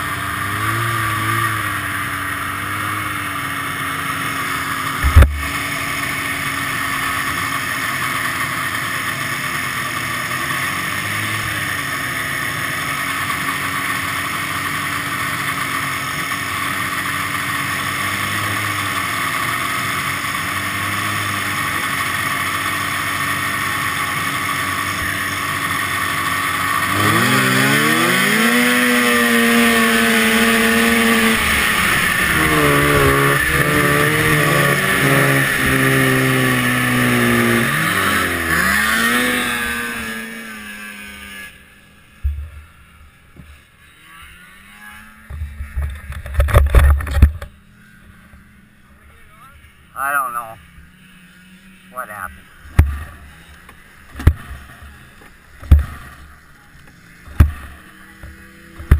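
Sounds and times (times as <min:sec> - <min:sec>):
snowmobile engine revving: 0:00.0 - 0:46.8, 0:47.7 - 0:58.9.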